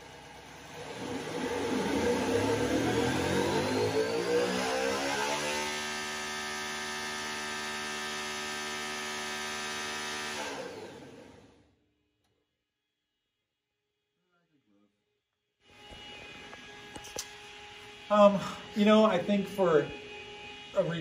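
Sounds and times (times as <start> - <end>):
engine whining at high speed: 0.0 - 11.8, 15.7 - 21.0.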